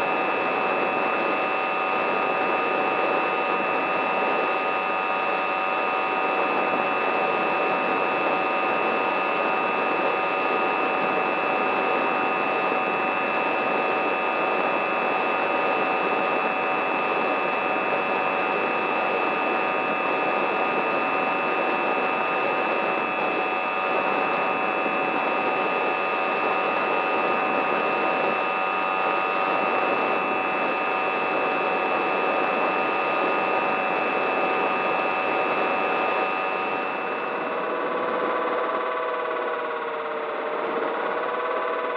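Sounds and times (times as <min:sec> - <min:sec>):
electric motor whine: 0:00.0 - 0:41.9.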